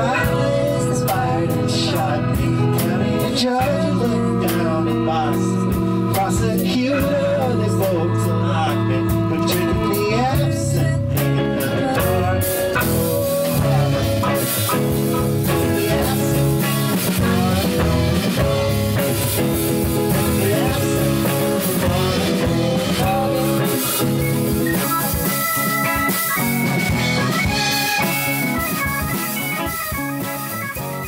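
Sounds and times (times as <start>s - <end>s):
lead guitar: 0.0s - 31.0s
rock song playing: 0.0s - 31.0s.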